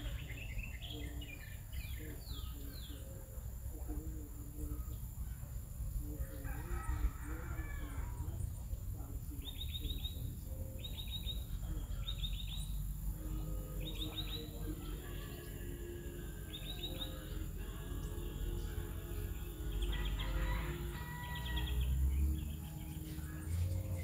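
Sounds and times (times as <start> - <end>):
bird chirping trill: 0.0 - 24.0
chickens calling: 0.0 - 24.0.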